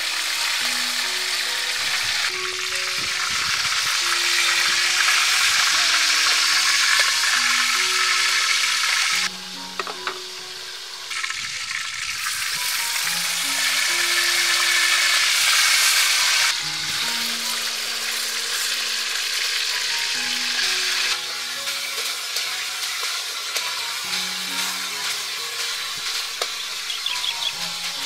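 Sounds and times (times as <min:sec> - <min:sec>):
meat sizzling in hot oil: 0:00.0 - 0:28.0
soft background music: 0:00.0 - 0:28.0.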